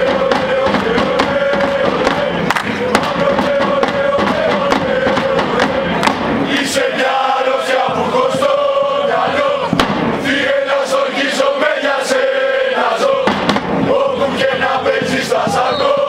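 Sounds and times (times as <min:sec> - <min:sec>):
sharp regular beats: 0:00.0 - 0:10.9, 0:13.1 - 0:15.6
football supporters chanting: 0:00.0 - 0:16.0.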